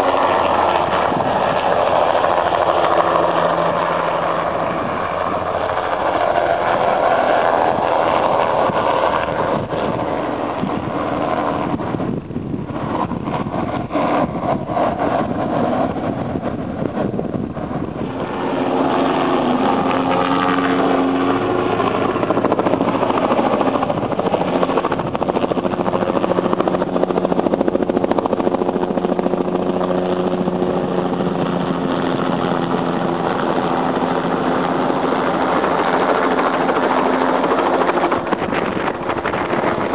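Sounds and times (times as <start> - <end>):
helicopter engine whine: 0.0 - 39.9
helicopter rotor beat: 0.0 - 39.9.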